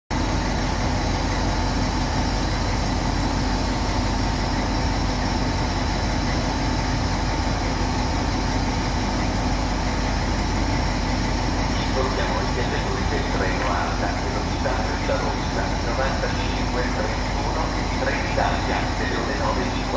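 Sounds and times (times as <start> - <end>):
locomotive engine idling: 0.1 - 19.9.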